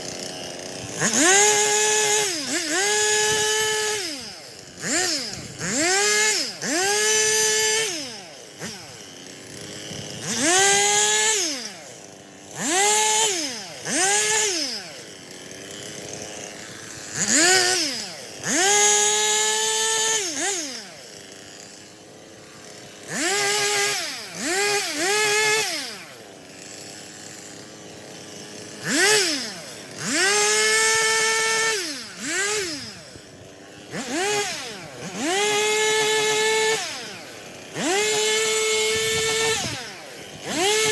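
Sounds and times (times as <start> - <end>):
chainsaw revving and cutting: 0.0 - 40.9.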